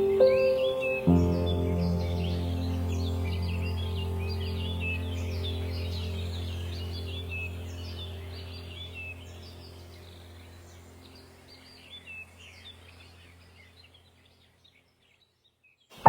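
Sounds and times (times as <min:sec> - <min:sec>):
low steady hum: 0:00.0 - 0:14.6
small birds chirping: 0:00.0 - 0:16.0.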